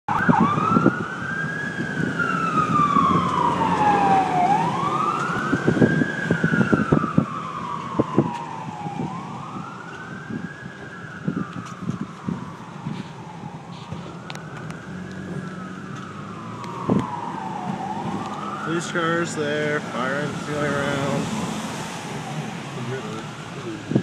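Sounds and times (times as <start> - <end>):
fire engine siren wailing: 0.1 - 24.0.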